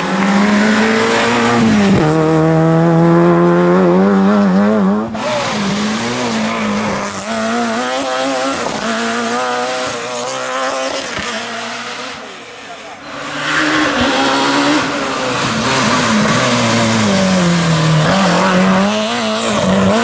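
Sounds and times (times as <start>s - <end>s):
rally car engine at high revs: 0.0s - 20.0s
rally car engine rising and falling: 0.0s - 20.0s.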